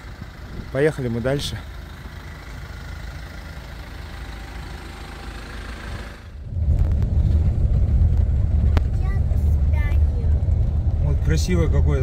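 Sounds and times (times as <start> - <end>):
car driving on cobblestones: 0.0 - 12.0
car engine running: 0.0 - 12.0.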